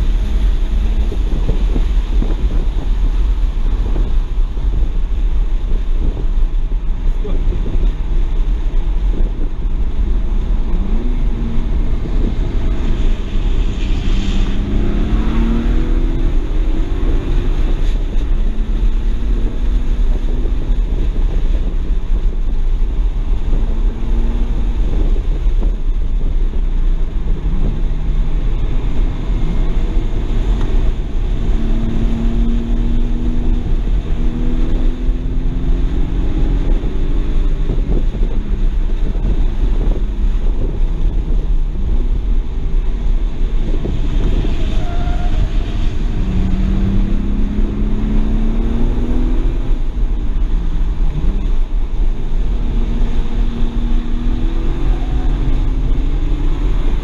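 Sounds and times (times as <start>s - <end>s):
car engine accelerating: 0.0s - 57.0s
wind rumble on microphone: 0.0s - 57.0s.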